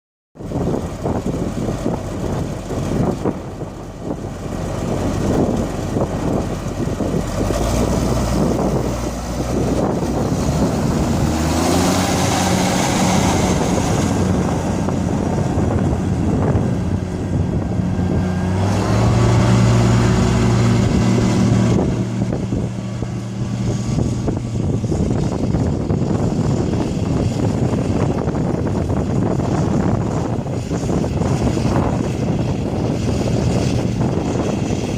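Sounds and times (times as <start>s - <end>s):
tractor diesel engine running: 0.4s - 34.9s.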